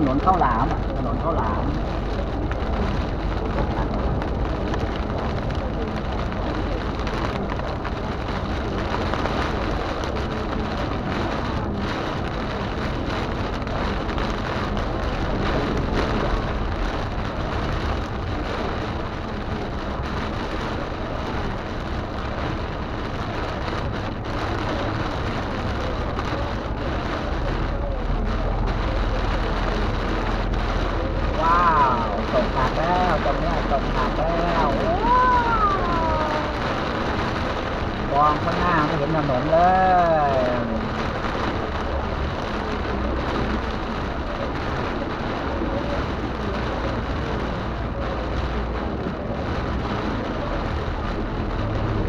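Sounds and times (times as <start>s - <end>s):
car road rumble: 0.0s - 52.0s
heavy rain on a car: 0.0s - 52.0s.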